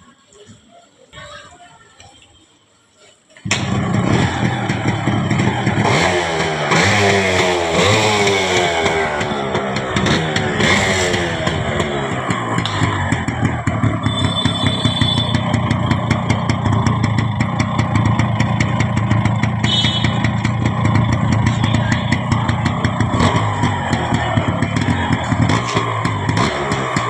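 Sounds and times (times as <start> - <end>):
two-stroke motorcycle engine running: 3.5 - 27.0.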